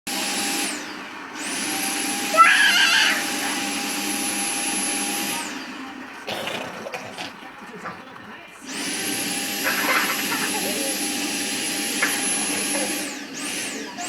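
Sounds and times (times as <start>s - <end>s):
vacuum cleaner motor whine: 0.1s - 6.8s, 7.4s - 14.0s.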